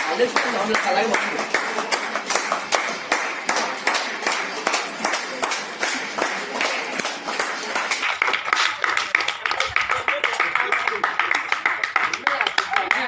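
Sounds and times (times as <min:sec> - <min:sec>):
people clapping: 0:00.0 - 0:13.0.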